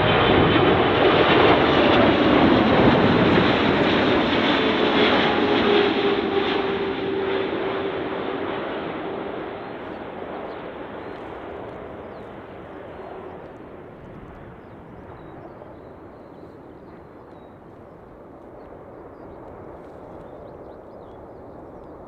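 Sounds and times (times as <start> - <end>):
airliner engine rushing: 0.0 - 22.0.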